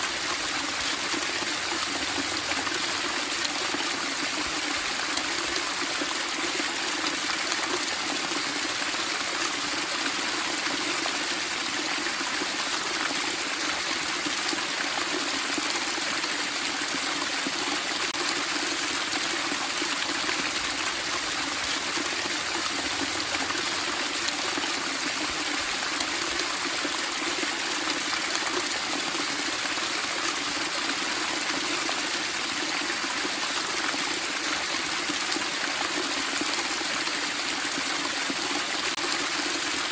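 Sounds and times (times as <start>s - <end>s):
flowing water splashing: 0.0s - 39.9s.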